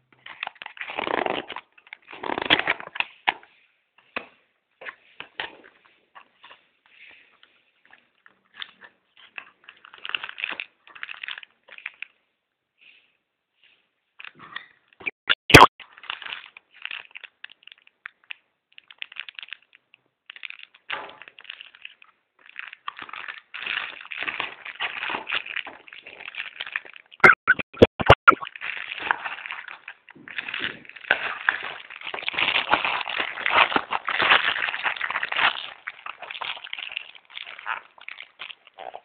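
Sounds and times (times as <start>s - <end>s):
packaging rustling and crinkling: 0.2s - 12.2s, 15.8s - 27.2s, 28.5s - 39.0s.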